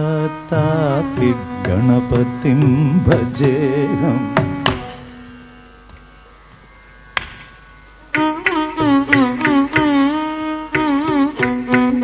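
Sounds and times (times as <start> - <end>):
faint tanpura drone: 0.0 - 12.0
violin melody with sliding ornaments: 0.0 - 12.0.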